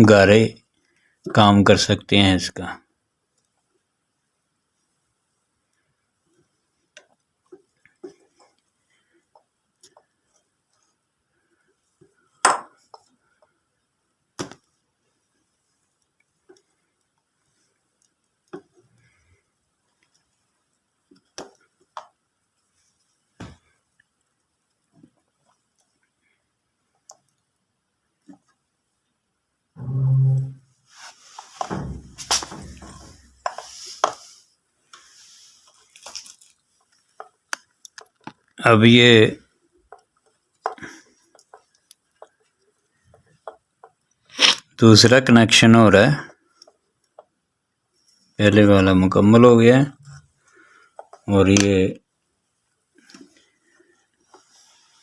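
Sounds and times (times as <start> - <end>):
wires and tools rustling: 4.7 - 27.6, 29.8 - 55.0.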